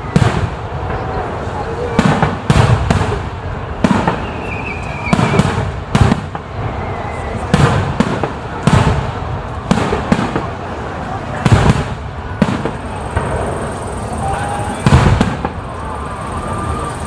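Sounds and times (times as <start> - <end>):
faint firework whistle: 0.0 - 8.8, 11.3 - 17.0
fireworks bursting: 0.0 - 17.0.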